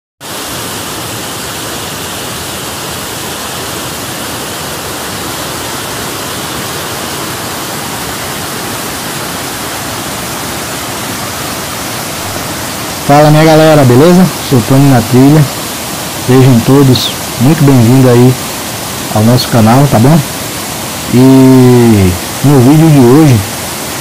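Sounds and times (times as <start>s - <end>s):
rushing water: 0.2s - 24.0s.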